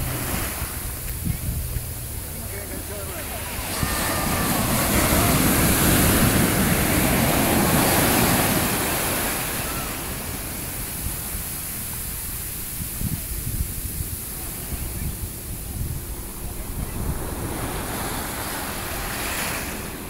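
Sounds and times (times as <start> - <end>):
ocean wave breaking: 0.0 - 20.0.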